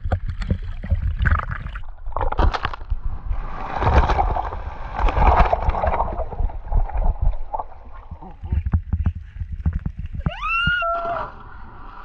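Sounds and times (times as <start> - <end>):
water rumbling against microphone: 0.0 - 12.0
water splashing: 0.0 - 12.0.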